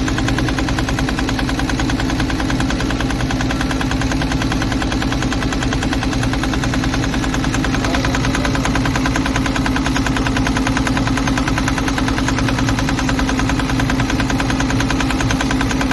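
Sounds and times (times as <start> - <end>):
excavator diesel engine idling: 0.0 - 15.9.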